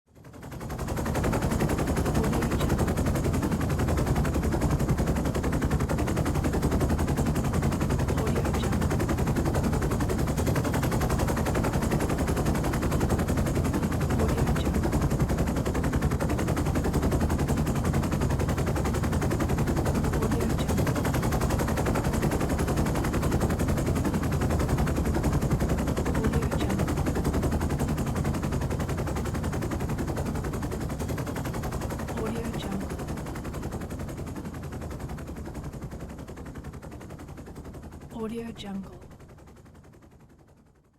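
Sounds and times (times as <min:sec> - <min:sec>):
helicopter engine and turbine noise: 0:00.1 - 0:40.9
helicopter rotor blades chopping: 0:00.2 - 0:40.5.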